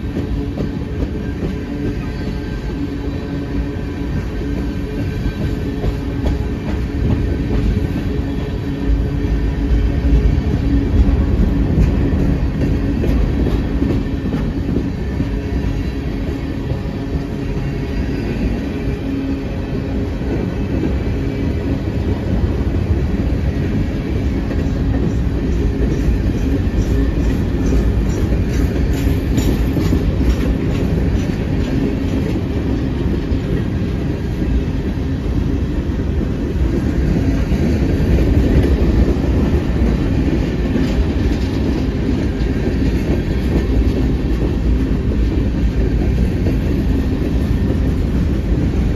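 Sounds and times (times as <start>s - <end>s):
rhythmic clickety-clack of wheels: 0.0s - 48.9s
train wheels rumbling on rails: 0.0s - 48.9s.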